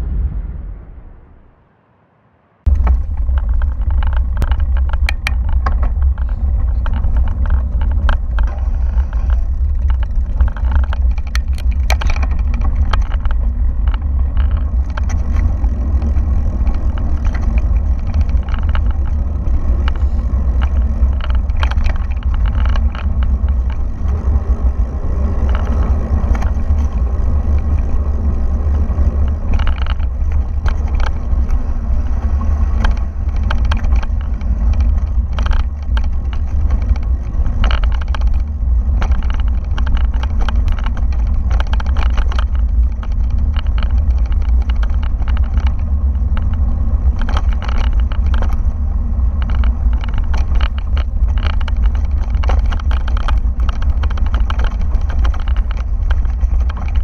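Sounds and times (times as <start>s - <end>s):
wind rumble on microphone: 0.0s - 1.9s, 2.6s - 57.0s
bike rattling over stones: 2.7s - 57.0s.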